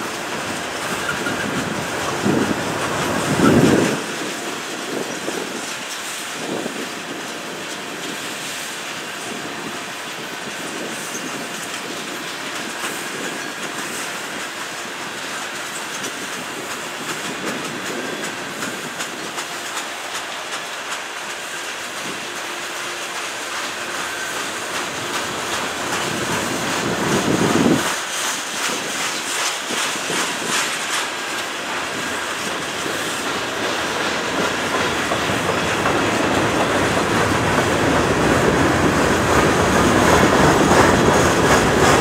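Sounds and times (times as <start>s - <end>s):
rolling rumble of train: 0.0s - 42.0s
train wheels clicking over rail joints: 0.0s - 42.0s.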